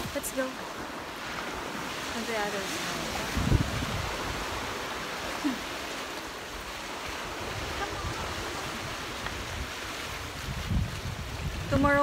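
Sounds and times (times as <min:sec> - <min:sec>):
surf washing over rocks: 0:00.0 - 0:12.0
wind rumbling on microphone: 0:00.0 - 0:12.0.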